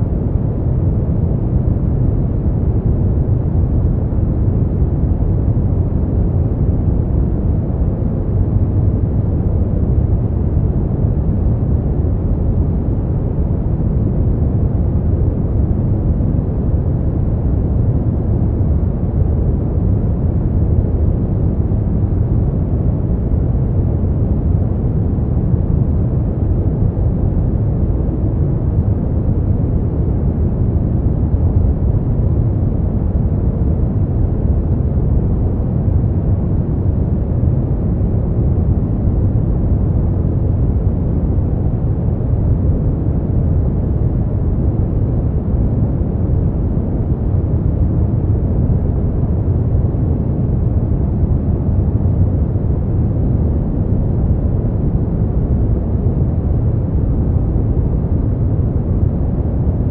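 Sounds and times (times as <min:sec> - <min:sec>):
deep muffled brown noise: 0:00.0 - 0:59.9.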